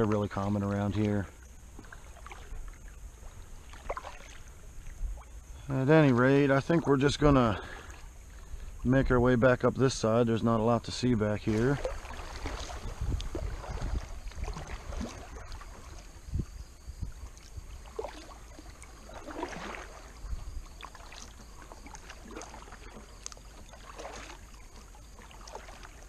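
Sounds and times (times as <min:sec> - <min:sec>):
paddle strokes splashing water: 0:00.0 - 0:26.0.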